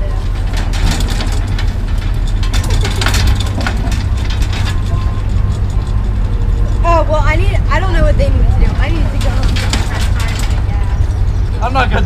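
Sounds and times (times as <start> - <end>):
iron gate knocking and rattling: 0.0 - 11.9
low engine-like rumble: 0.0 - 12.0.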